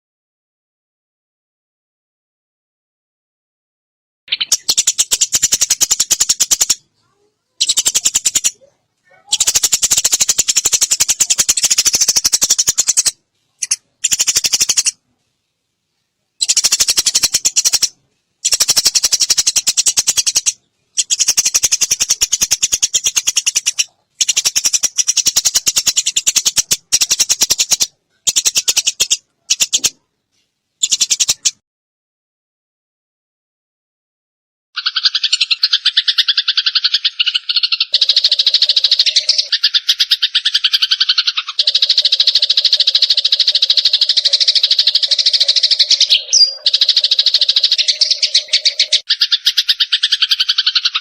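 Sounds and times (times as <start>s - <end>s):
sparrows chattering: 4.3s - 15.0s, 16.4s - 31.6s, 34.8s - 51.0s.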